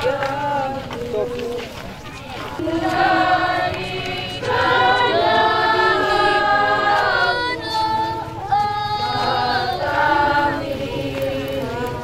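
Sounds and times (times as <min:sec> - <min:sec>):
crowd singing a hymn: 0:00.0 - 0:12.0.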